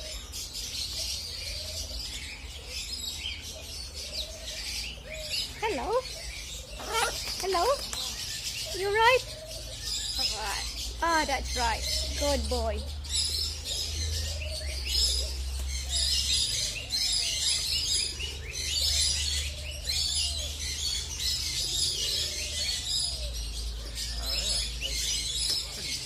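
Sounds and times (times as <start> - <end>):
birds chirping and twittering: 0.0 - 26.0.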